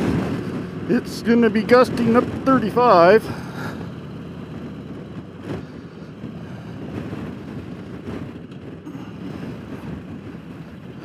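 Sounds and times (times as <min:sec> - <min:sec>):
motorcycle running: 0:00.0 - 0:11.0
road noise: 0:00.0 - 0:11.0
wind buffeting helmet microphone: 0:00.0 - 0:11.0.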